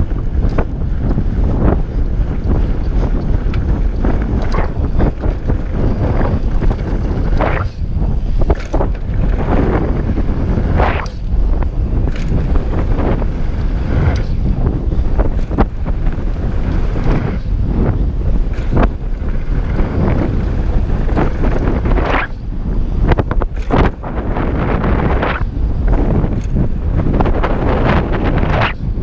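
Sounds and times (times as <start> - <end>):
bike knocks and rattles: 0.0 - 28.1
tyres rumbling on dirt: 0.0 - 28.6
wind buffeting microphone: 0.0 - 29.0.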